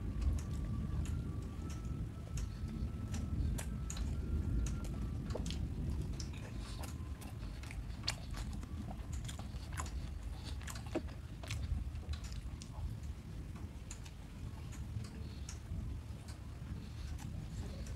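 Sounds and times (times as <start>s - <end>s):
crunchy chewing: 0.0s - 17.9s.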